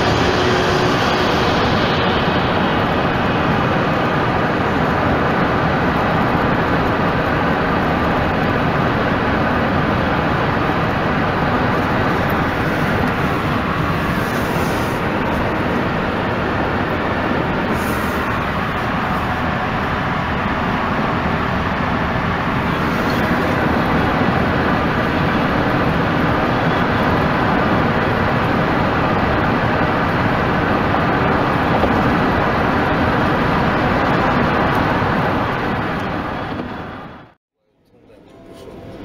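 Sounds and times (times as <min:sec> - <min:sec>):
road and engine noise in car: 0:00.0 - 0:37.3.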